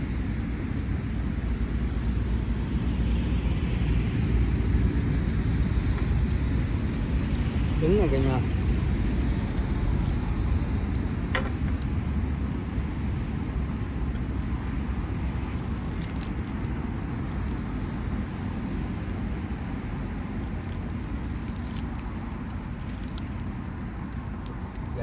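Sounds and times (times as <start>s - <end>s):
jet airliner rumble: 0.0s - 25.0s.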